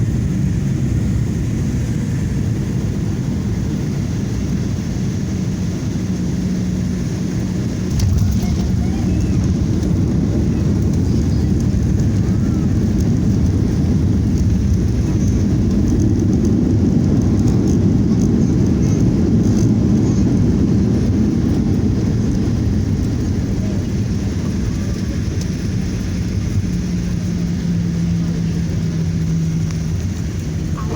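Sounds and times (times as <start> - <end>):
jet engines roaring: 0.0 - 30.9.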